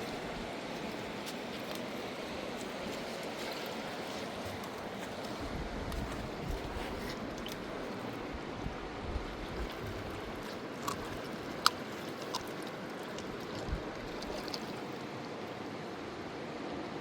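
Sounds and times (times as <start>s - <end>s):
fast-flowing river rushing: 0.0s - 17.0s.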